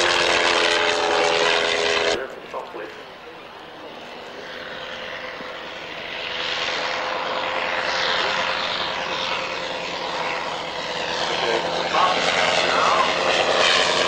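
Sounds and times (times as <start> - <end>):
biplane propeller engine passing: 0.0 - 14.0.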